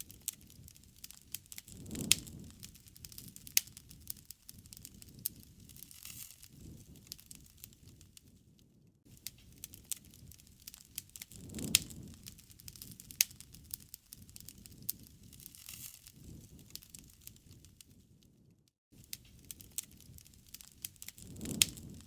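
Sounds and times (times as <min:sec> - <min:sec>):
low rushing of flames: 0:00.0 - 0:22.0
wood fire crackling and popping: 0:00.0 - 0:22.0.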